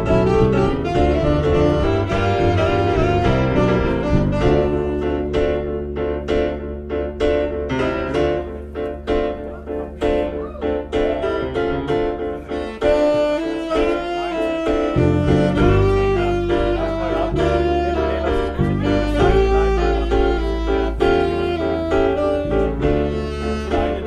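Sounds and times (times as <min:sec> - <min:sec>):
band playing instrumental: 0:00.0 - 0:24.0.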